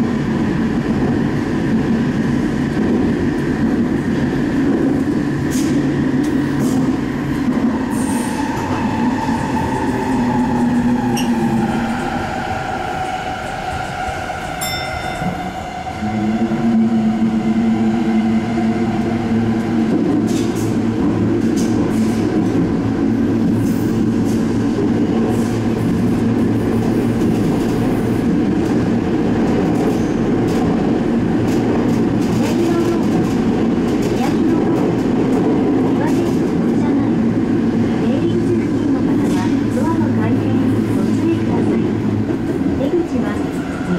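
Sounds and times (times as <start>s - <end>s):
train wheel and running noise: 0.0s - 43.9s.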